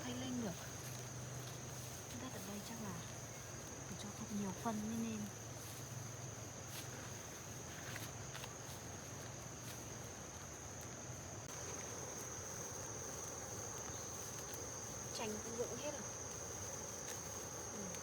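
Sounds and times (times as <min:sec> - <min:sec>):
faint rustles: 0:00.0 - 0:18.0
insects chirring: 0:00.0 - 0:18.0.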